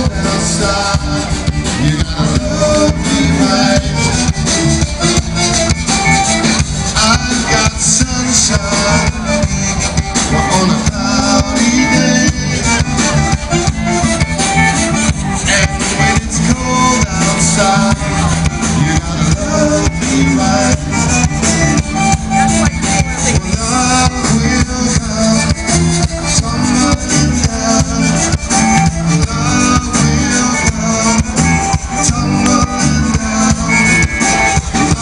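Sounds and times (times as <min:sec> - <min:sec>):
live band playing amplified music: 0:00.0 - 0:35.0.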